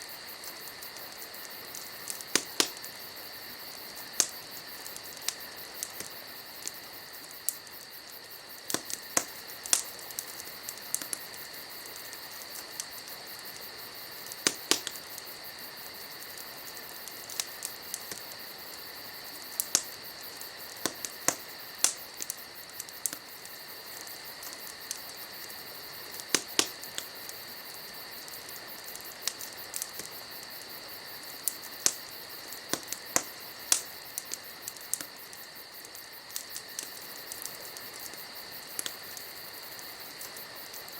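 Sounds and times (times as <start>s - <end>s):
crickets chirring: 0.0s - 40.9s
wood fire crackling and popping: 0.0s - 40.9s.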